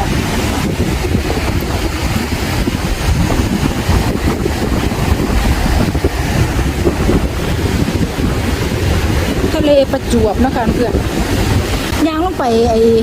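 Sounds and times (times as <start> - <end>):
waves breaking on beach: 0.0 - 13.0
wind buffeting microphone: 0.0 - 13.0.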